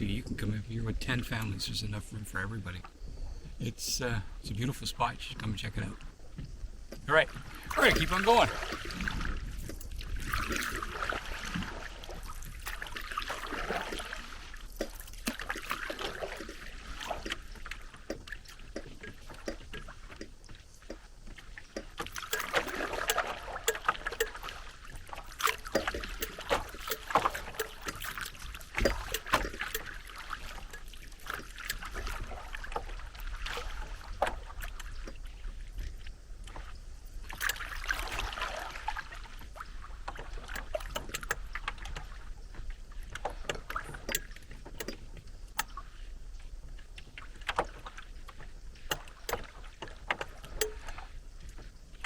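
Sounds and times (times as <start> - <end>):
water dripping and trickling: 5.5 - 45.9, 46.6 - 51.7
paddle strokes in water: 5.9 - 52.0.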